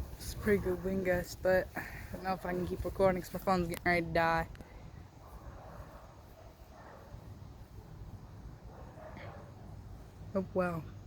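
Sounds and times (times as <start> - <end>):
wind on microphone: 0.0 - 9.9.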